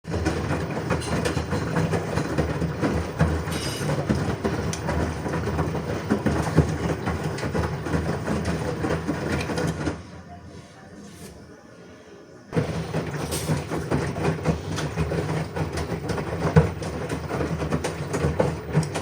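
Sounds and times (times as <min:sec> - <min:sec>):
washing machine rumbling: 0:00.0 - 0:19.0.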